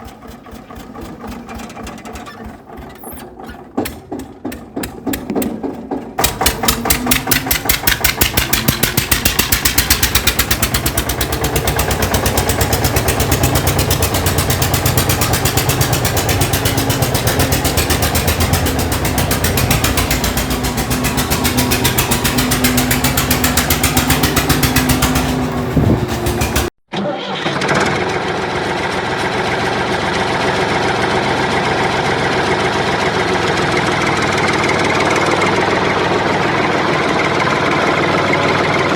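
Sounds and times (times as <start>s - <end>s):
small engine running: 0.0s - 26.7s, 27.4s - 38.9s.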